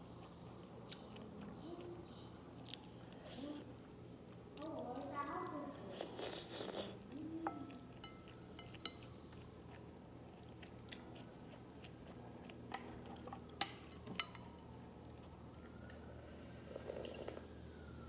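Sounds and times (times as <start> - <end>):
soft chewing: 0.0 - 17.7.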